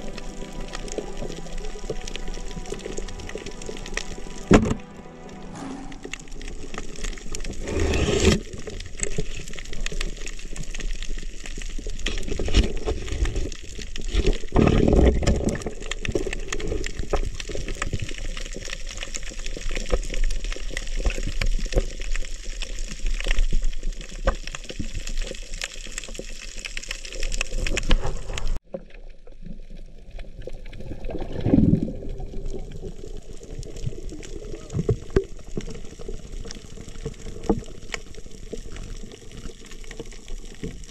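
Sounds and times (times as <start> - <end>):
underwater rush of water: 0.0 - 40.9
crackling clicks underwater: 6.7 - 40.9.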